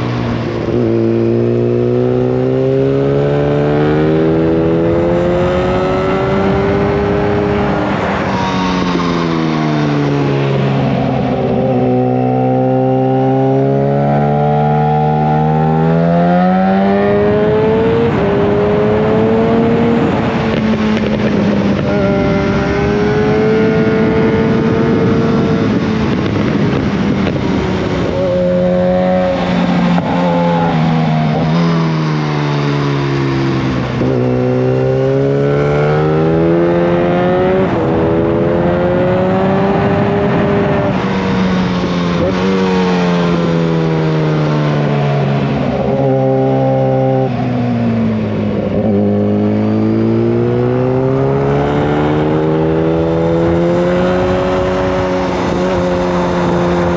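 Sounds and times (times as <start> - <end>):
loud motorcycle engine: 0.0 - 56.9.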